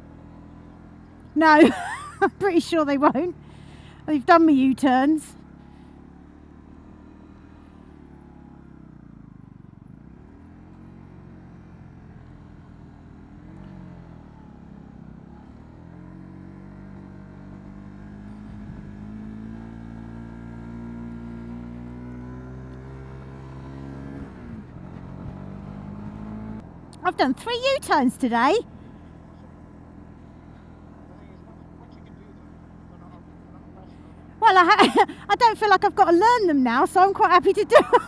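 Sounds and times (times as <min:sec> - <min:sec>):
motorcycle engine revving: 0:01.5 - 0:38.0.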